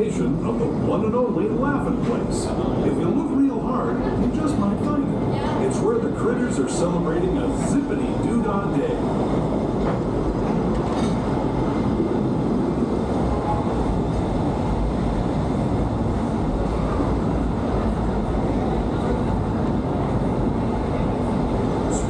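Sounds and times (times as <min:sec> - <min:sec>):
train rolling rumble: 0:00.0 - 0:22.0.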